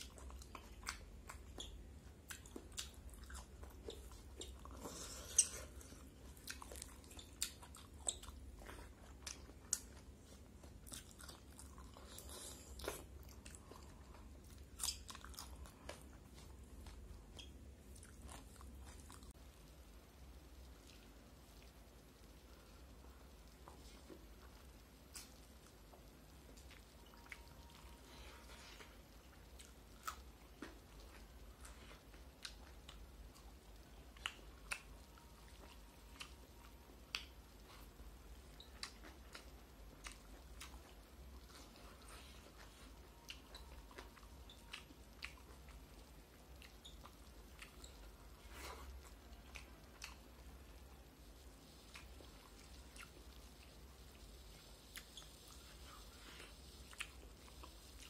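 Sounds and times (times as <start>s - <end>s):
chewing: 0.0s - 19.4s, 20.7s - 58.0s
wet clicks and smacks of eating: 0.0s - 19.8s, 23.5s - 50.9s, 51.7s - 58.0s
faint low hum: 0.0s - 58.0s.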